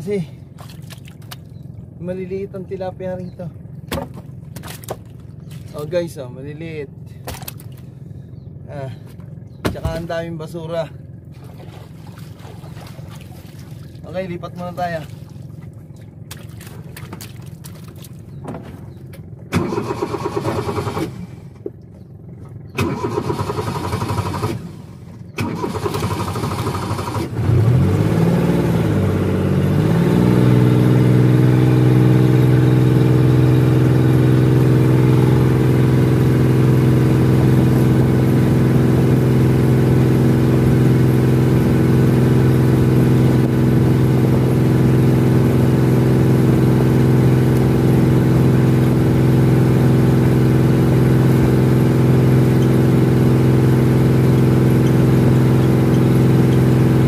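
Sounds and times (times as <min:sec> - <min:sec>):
boat engine starting and running: 0:00.0 - 0:57.0.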